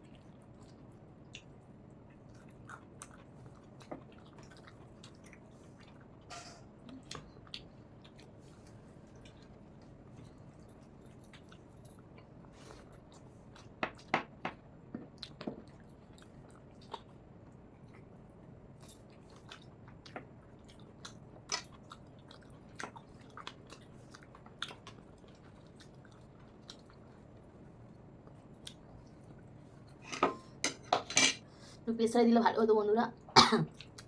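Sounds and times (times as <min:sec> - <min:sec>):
chewing and biting food: 0:00.0 - 0:14.1, 0:15.0 - 0:29.6.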